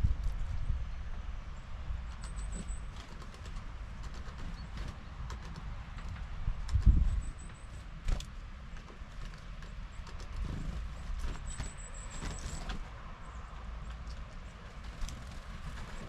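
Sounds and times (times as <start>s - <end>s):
wind rumble on microphone: 0.0s - 16.0s
birds tapping and knocking: 2.1s - 12.9s, 13.9s - 16.0s.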